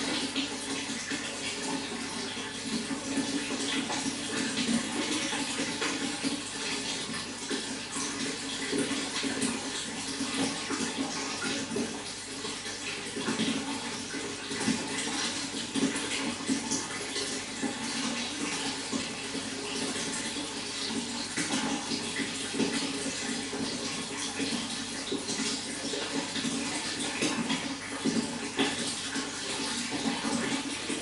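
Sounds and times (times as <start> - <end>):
running water splashing: 0.0 - 31.0.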